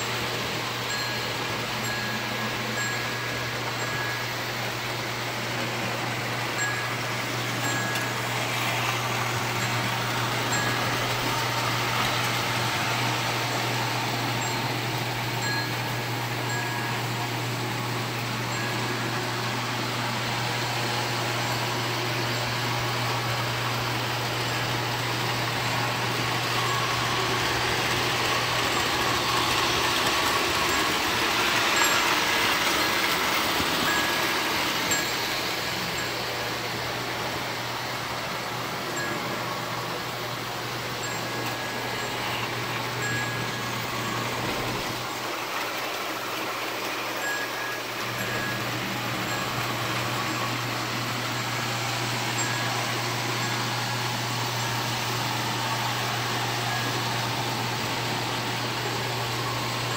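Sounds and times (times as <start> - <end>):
toy trains whirring and rumbling: 0.0 - 59.9.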